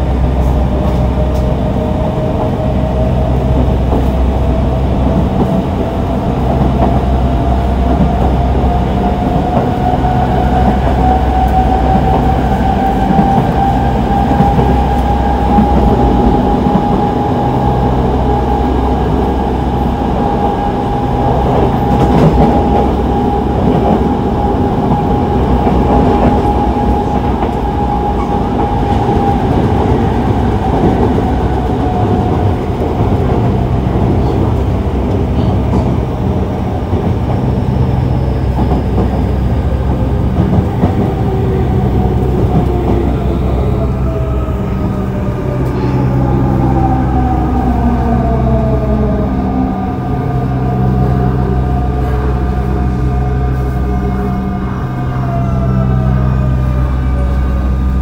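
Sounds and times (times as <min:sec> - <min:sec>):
wheel and track rumble: 0:00.0 - 0:58.0.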